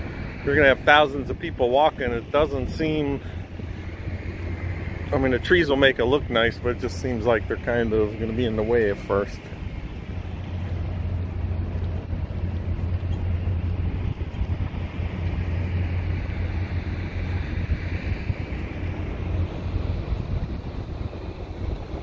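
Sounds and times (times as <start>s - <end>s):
road traffic rumble: 0.0s - 22.0s
wind buffeting microphone: 0.0s - 22.0s.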